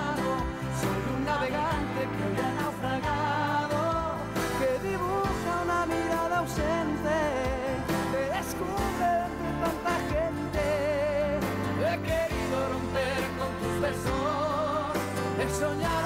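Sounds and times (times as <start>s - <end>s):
backing band with steady beat: 0.0s - 16.0s
solo singer: 0.0s - 16.0s.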